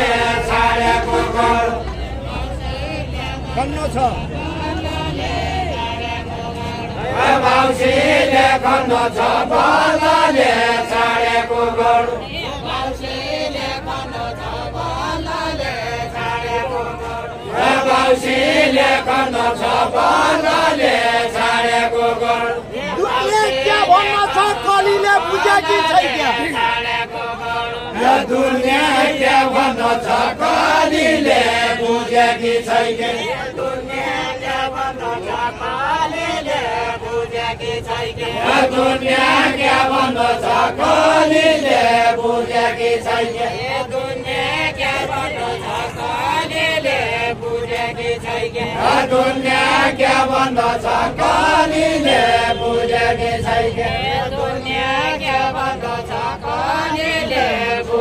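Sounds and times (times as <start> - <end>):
voices singing folk song: 0.0 - 58.0.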